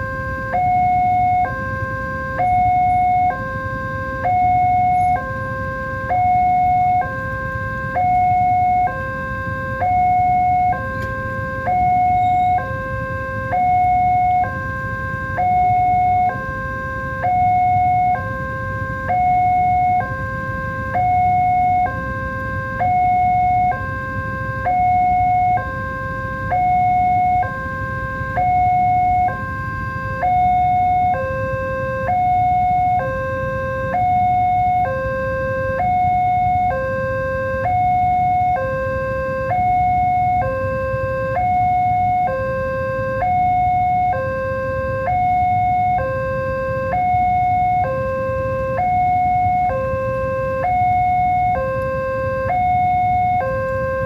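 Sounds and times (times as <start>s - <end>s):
level crossing two-tone alarm: 0.0s - 54.0s.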